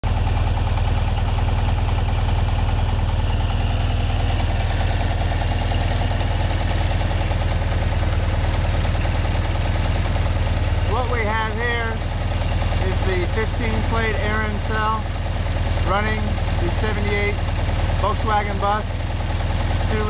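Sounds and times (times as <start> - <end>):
van engine idling: 0.0 - 20.0.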